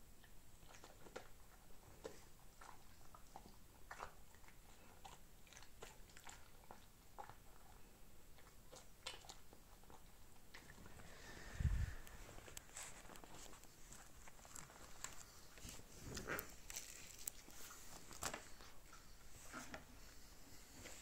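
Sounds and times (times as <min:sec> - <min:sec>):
dog chewing crunchy bread: 0:00.2 - 0:11.0, 0:12.4 - 0:19.7.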